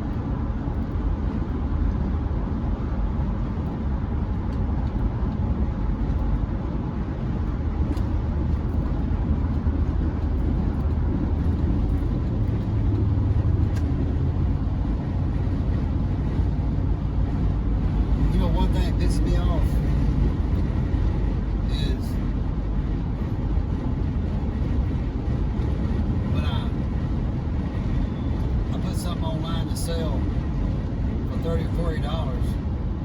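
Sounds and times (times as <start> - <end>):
in-cab road and engine rumble: 0.0 - 33.0.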